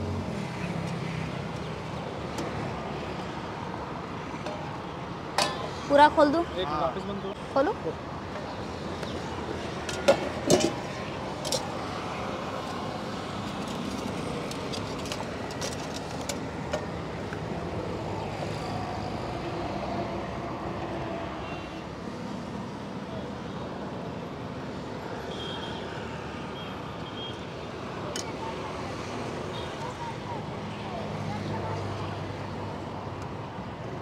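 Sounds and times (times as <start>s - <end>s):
road traffic hum: 0.0s - 34.0s.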